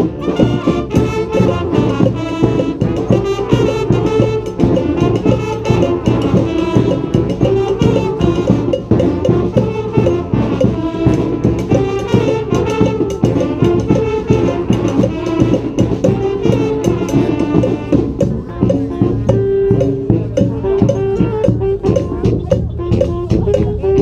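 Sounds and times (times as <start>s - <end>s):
brass band horns: 0.0s - 24.0s
percussion rhythm: 0.0s - 24.0s.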